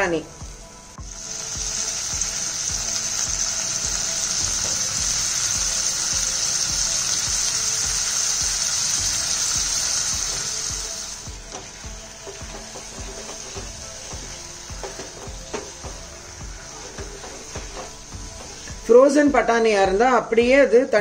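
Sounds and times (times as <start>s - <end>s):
masala sizzling in hot oil: 0.9s - 19.8s.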